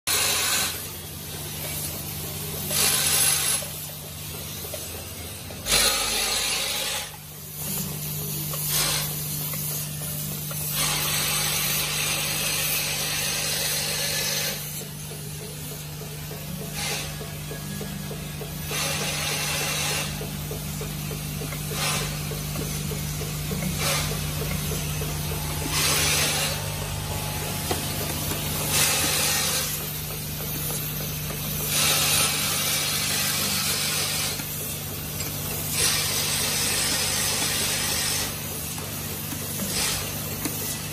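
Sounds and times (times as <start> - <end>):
machine hum: 0.1 - 40.9.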